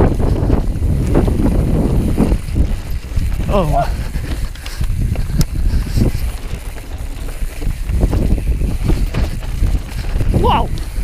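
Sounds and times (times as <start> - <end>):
mountain bike clattering on trail: 0.0 - 11.0
wind buffeting microphone: 0.0 - 11.0.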